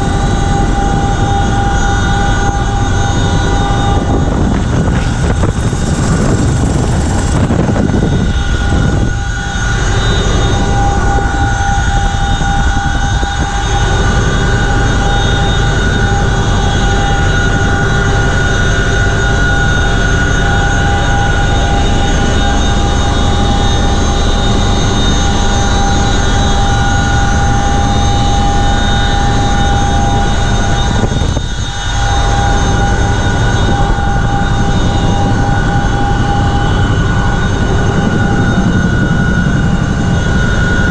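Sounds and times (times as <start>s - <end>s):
helicopter engine and rotor drone: 0.0s - 40.9s
high whine: 0.0s - 40.9s.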